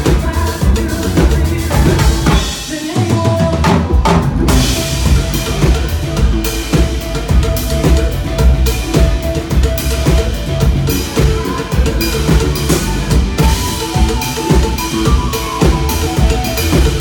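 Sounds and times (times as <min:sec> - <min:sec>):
drum kit beat: 0:00.0 - 0:17.0
live band playing: 0:00.0 - 0:17.0.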